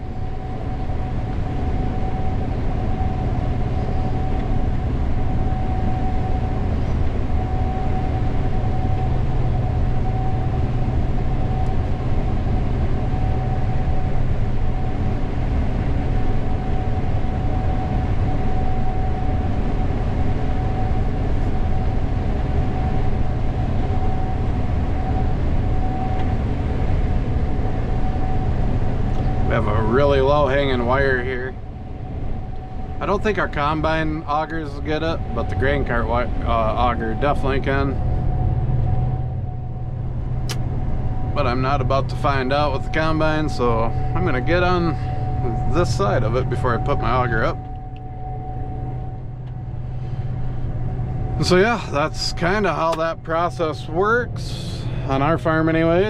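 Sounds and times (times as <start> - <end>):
combine harvester drone: 0.0 - 56.0
thin steady whine: 0.0 - 56.0.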